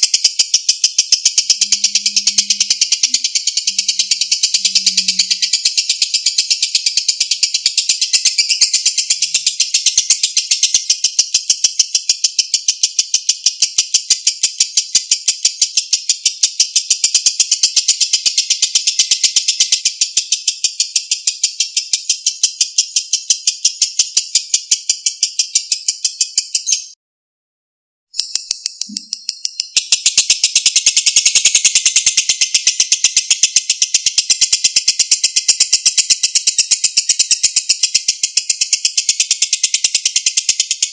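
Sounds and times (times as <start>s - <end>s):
lovebird trilling: 0.0s - 12.6s, 17.2s - 27.0s, 28.2s - 40.9s.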